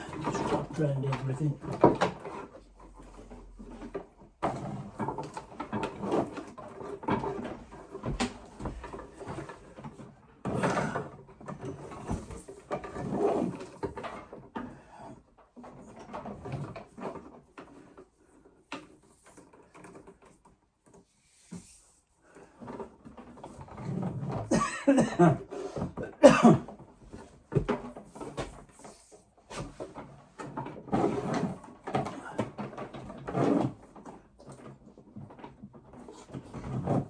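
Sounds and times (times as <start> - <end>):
cable rustling and scraping: 0.0 - 24.6, 25.4 - 37.0.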